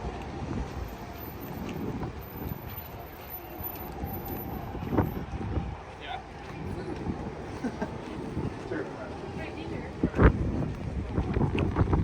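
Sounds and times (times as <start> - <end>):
wind buffeting microphone: 0.0 - 3.0, 3.8 - 12.0.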